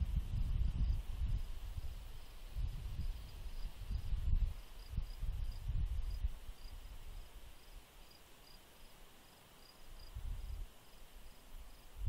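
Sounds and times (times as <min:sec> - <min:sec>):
outdoor ambience: 0:00.0 - 0:12.0
cricket chirping: 0:00.8 - 0:12.0.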